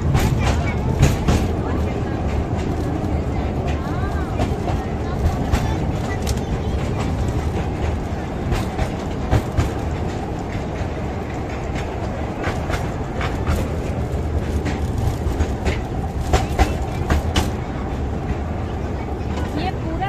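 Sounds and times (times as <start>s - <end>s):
wheels clicking over rail joints: 0.0s - 20.0s
wheels rumbling on track: 0.0s - 20.0s.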